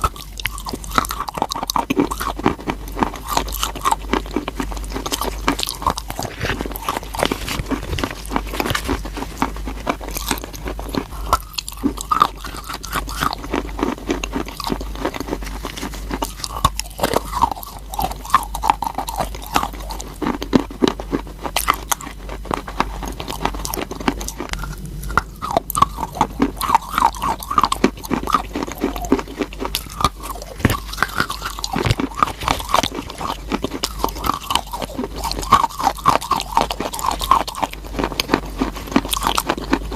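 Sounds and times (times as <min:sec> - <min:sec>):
person crunching chalk: 0:00.0 - 0:39.9.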